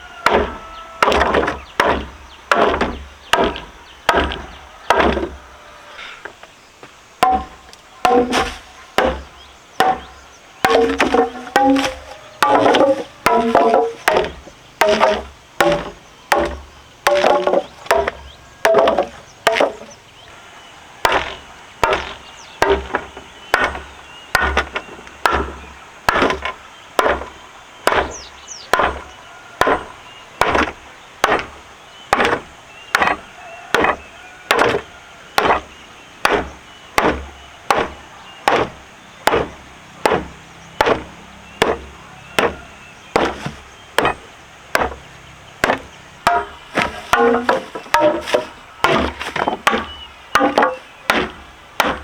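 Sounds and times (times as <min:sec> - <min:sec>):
blade chopping wood: 0:00.2 - 0:05.4, 0:07.2 - 0:20.0, 0:21.0 - 0:52.0.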